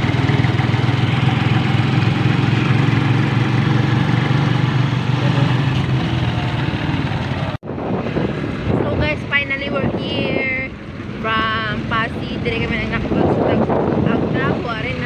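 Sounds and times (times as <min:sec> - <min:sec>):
road noise: 0:00.0 - 0:15.0
vehicle engine humming: 0:00.0 - 0:15.0.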